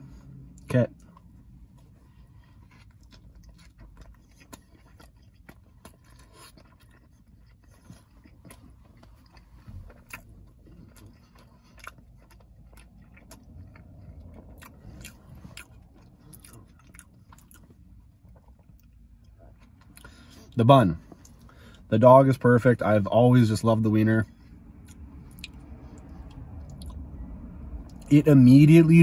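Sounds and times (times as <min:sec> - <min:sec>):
man chewing food: 0:00.0 - 0:21.8, 0:24.3 - 0:28.1
faint low rumble: 0:00.0 - 0:29.0.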